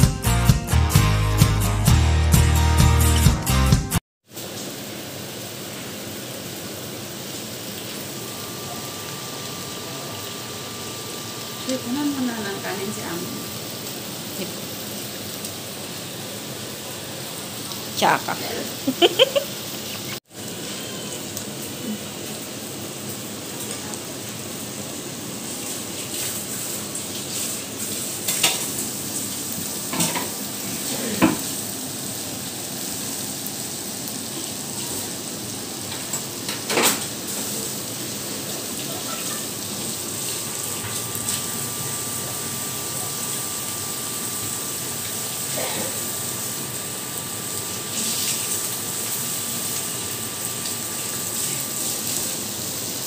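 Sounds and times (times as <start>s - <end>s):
food sizzling on a grill: 4.2s - 53.0s.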